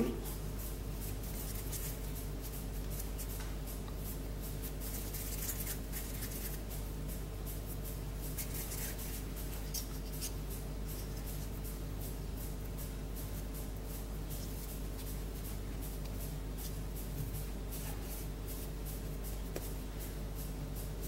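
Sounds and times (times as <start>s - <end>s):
hands rubbing dough: 0.0s - 7.3s, 7.9s - 21.0s
steady low hum: 0.0s - 21.0s.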